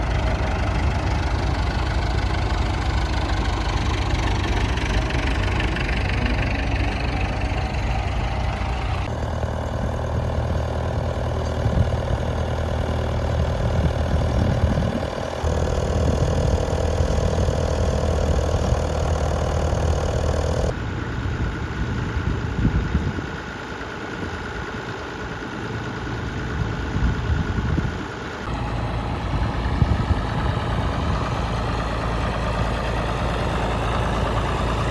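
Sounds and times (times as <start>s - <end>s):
tractor engines running: 0.0s - 34.9s.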